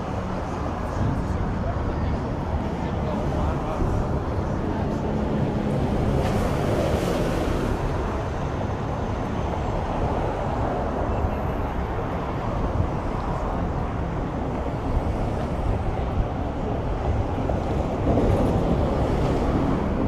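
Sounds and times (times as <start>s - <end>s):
passing traffic rumble: 0.0s - 20.0s.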